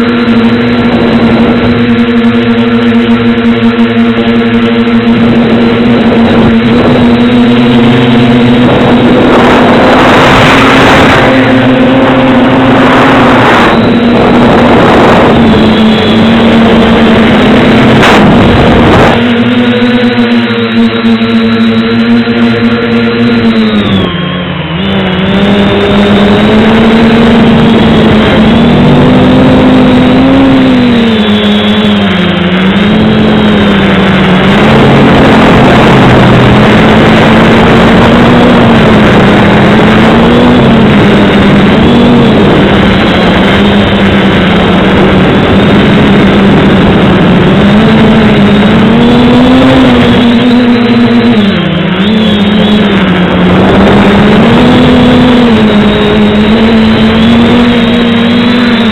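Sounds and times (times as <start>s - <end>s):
electric motor and propeller whining: 0.0s - 58.9s.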